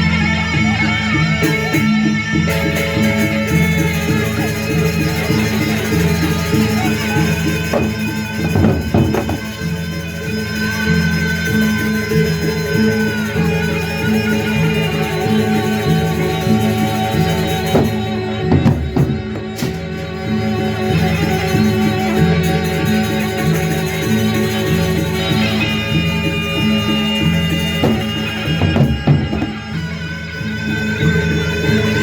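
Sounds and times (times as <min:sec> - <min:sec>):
traditional band playing: 0:00.0 - 0:32.0.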